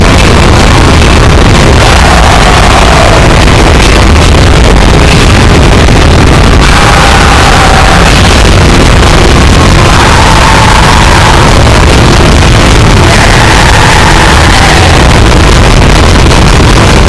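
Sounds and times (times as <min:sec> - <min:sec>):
distorted noise music: 0:00.0 - 0:17.0.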